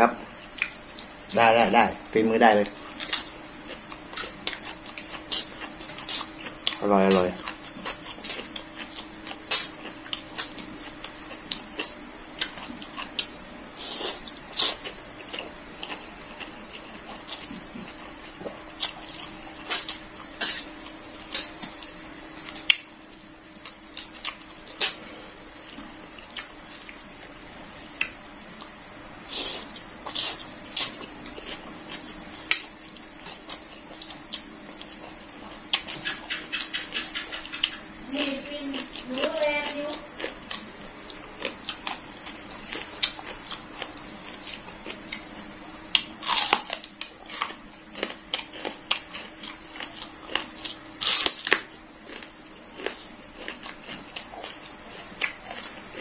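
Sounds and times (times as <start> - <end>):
crickets chirping: 0.0 - 56.0
chewing and smacking: 2.8 - 6.8, 7.4 - 25.0, 25.6 - 27.3, 29.7 - 38.0, 39.9 - 56.0.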